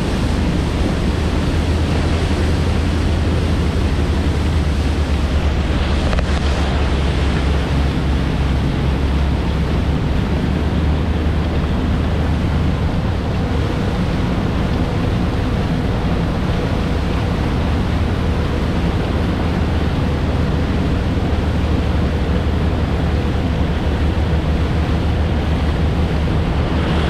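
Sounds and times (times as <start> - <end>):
low engine drone: 0.0 - 27.0
water rushing past boat: 0.0 - 27.0
wind buffeting microphone: 0.0 - 27.0.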